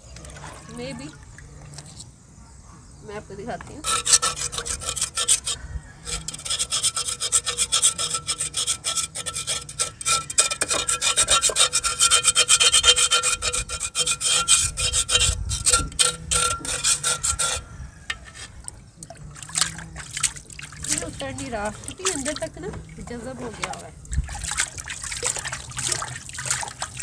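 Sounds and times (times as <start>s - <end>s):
brush scrubbing clay pot: 3.3s - 27.0s.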